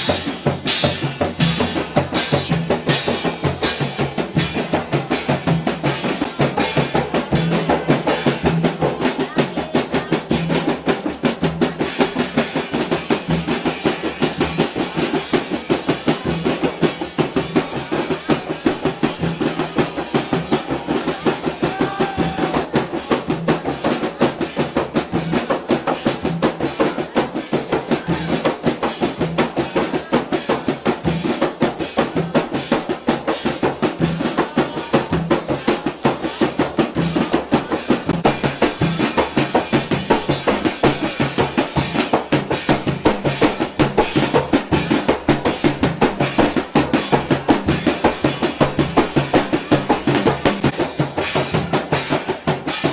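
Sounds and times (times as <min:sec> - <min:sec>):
frame drum ensemble playing: 0:00.0 - 0:52.9
stick-beaten drum: 0:00.0 - 0:52.9.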